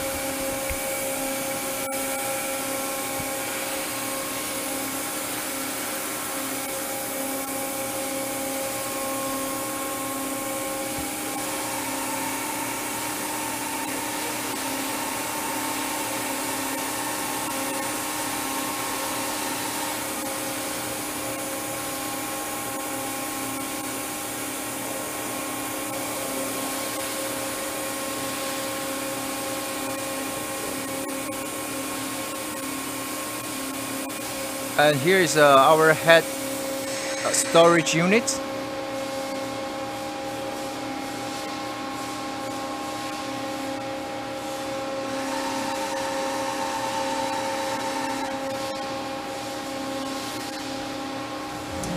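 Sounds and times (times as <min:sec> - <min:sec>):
constant machine hum tones: 0:00.0 - 0:51.9
machine motors and fans whirring: 0:00.0 - 0:51.9.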